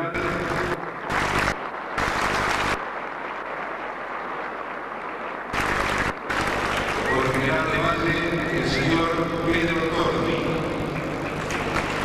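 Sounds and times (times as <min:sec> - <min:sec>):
low steady hum: 0:00.0 - 0:04.1, 0:04.9 - 0:12.0
crowd applauding: 0:00.0 - 0:12.0.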